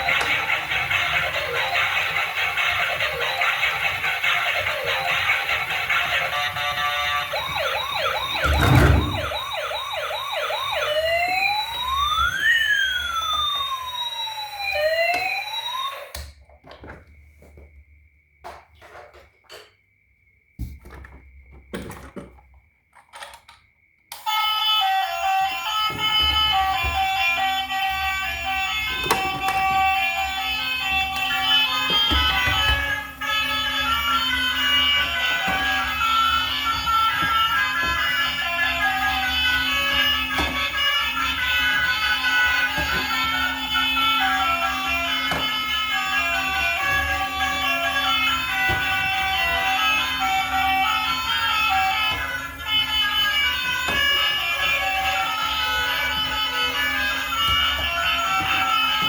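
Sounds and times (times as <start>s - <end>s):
toy siren yelping and wailing: 0.0s - 16.3s, 24.1s - 59.0s.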